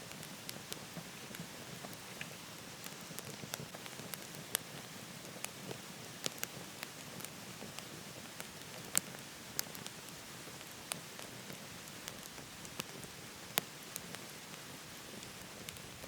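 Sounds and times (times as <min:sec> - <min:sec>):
steady fire hiss: 0:00.0 - 0:16.0
wood fire crackling: 0:00.0 - 0:16.0.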